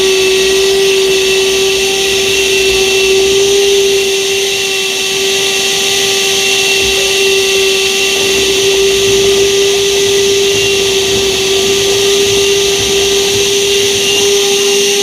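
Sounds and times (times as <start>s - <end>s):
rushing hiss of air: 0.0s - 15.0s
wet vacuum whining: 0.0s - 15.0s.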